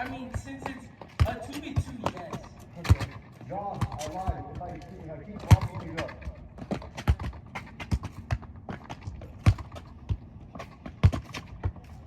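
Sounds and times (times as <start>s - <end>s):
football being kicked: 0.0s - 4.7s, 5.4s - 11.9s
running footsteps: 0.0s - 12.0s.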